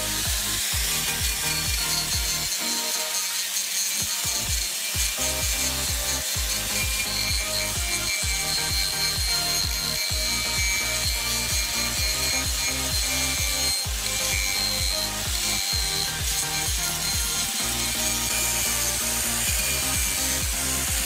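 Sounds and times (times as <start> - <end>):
angle grinder motor whine: 0.0 - 21.0
grinder rasping wood: 0.0 - 21.0.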